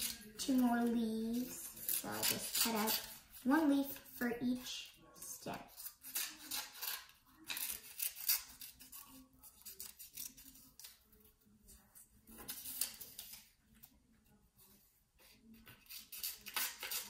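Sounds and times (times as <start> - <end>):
scissors cutting paper: 0.0 - 4.7, 5.4 - 13.9, 15.2 - 17.0.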